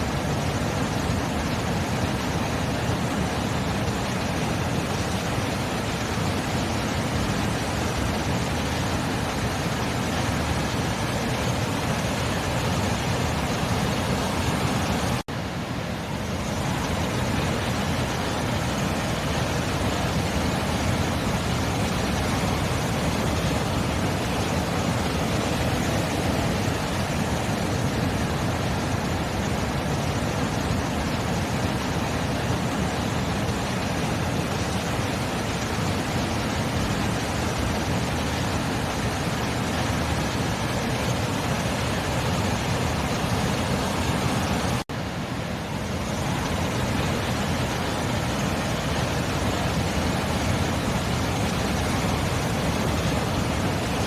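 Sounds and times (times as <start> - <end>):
sea surf roaring: 0.0 - 54.0.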